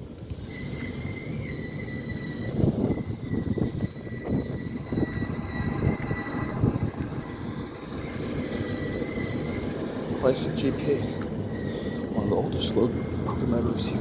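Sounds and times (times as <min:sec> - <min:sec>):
diesel locomotive engine rumble: 0:00.0 - 0:14.0
high whine: 0:00.0 - 0:14.0.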